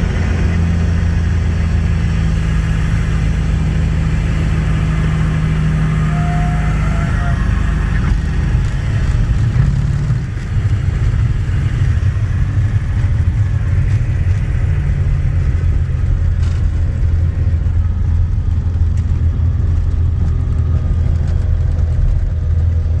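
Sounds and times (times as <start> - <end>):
propeller plane engine drone: 0.0 - 23.0.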